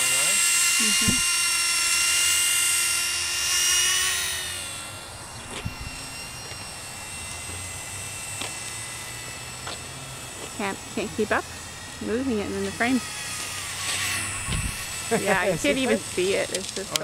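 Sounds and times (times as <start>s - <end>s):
rc helicopter motor whining: 0.0s - 17.0s.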